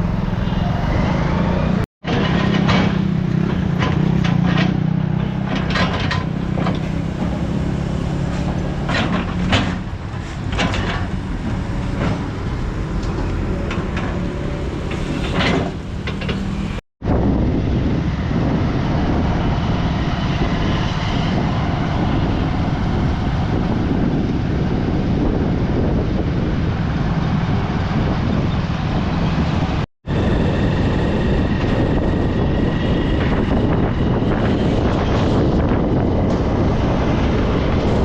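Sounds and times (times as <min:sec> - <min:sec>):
vehicle road noise: 0:00.0 - 0:38.0
wind on microphone: 0:02.6 - 0:38.0.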